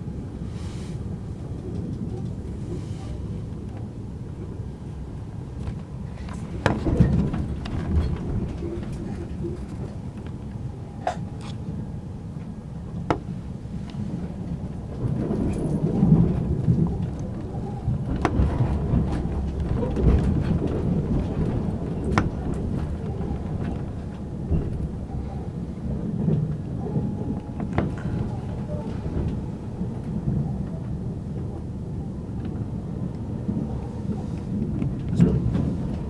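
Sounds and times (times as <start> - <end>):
train rumbling on track: 0.0 - 36.0.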